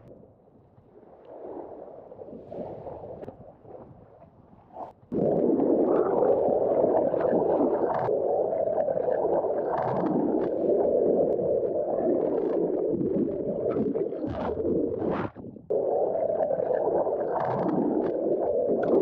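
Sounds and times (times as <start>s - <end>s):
muffled rush of water: 0.0s - 19.0s.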